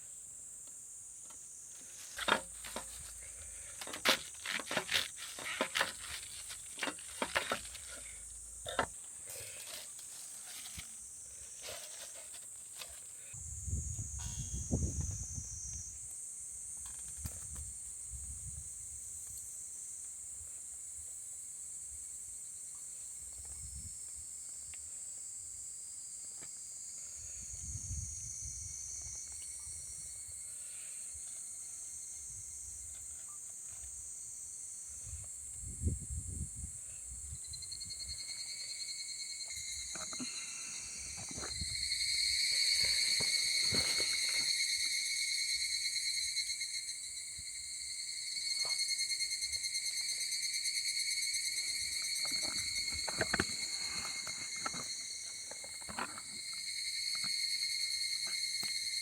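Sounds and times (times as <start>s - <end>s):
high insect chirring: 0.0s - 19.6s, 26.8s - 59.0s
lower insect song: 0.0s - 59.0s.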